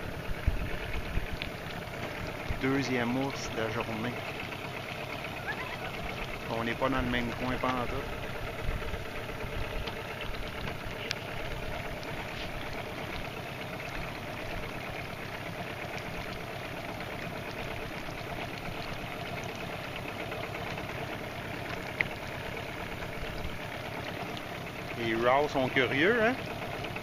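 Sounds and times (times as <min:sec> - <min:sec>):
outboard motor idling: 0:00.0 - 0:27.0.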